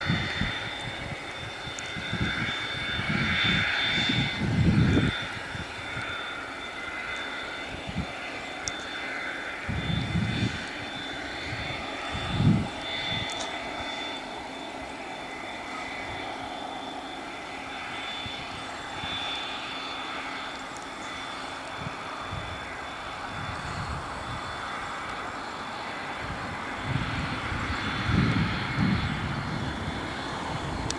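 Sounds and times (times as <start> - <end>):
jet turbofans whining: 0.0 - 30.9.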